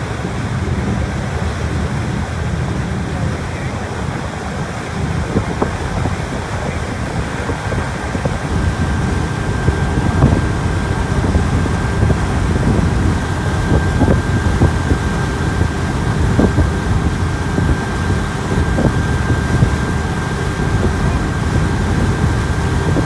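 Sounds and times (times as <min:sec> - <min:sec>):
boat engine running: 0:00.0 - 0:23.0
thin steady whine: 0:00.0 - 0:23.0
wind buffeting microphone: 0:00.0 - 0:23.0.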